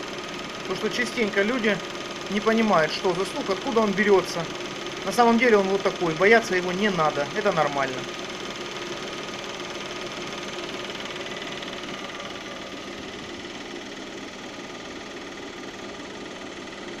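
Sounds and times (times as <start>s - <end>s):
car engine idling: 0.0s - 17.0s
rapid valve ticking: 0.0s - 17.0s.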